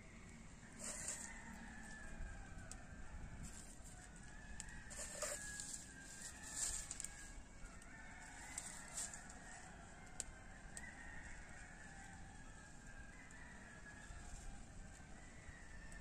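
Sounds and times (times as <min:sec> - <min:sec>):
rooster crowing: 0:00.1 - 0:16.0
wood fire crackling: 0:00.3 - 0:13.4.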